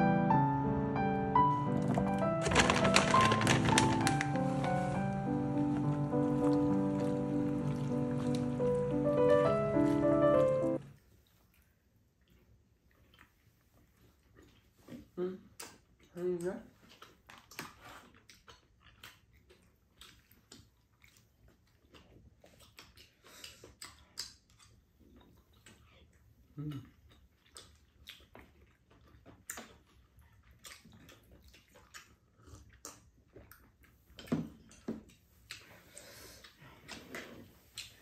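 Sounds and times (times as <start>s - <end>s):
chewing and mouth noises: 3.0s - 38.0s.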